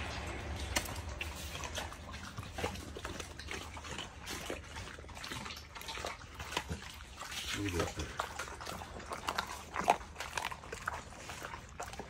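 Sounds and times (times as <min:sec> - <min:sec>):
dog chewing bones: 0:00.0 - 0:12.0.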